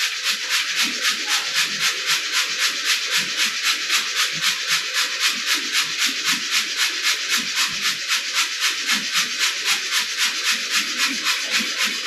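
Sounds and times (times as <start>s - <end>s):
rhythmic scratchy rasping on steel: 0.0s - 12.0s.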